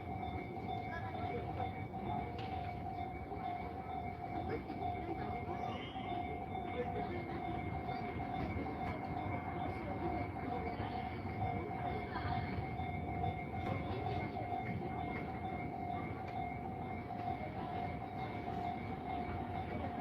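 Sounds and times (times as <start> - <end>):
level-crossing alarm ringing: 0.0 - 20.0
train running past: 0.0 - 20.0.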